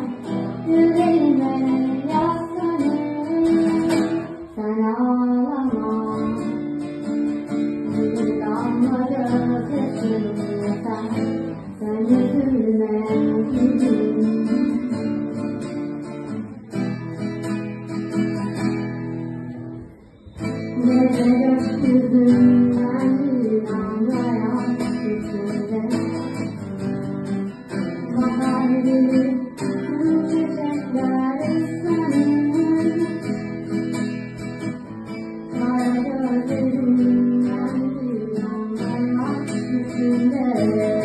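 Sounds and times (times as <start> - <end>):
acoustic guitar playing: 0.0 - 41.0.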